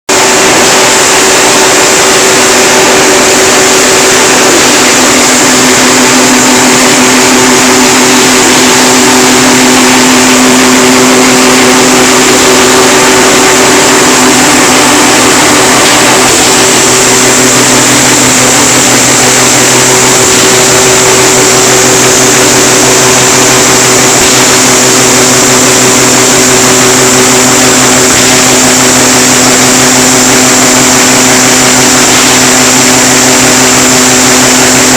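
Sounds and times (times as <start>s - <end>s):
machine mechanical whine: 0.1s - 34.9s.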